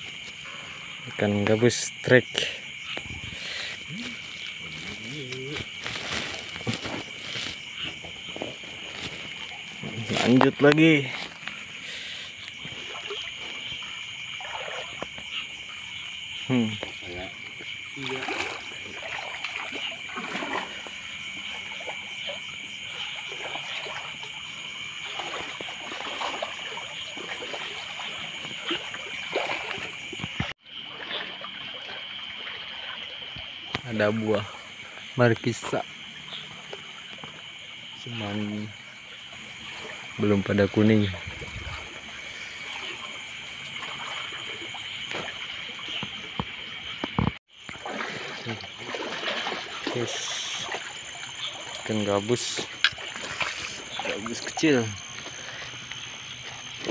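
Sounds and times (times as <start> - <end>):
water splashing while wading: 2.6 - 56.9.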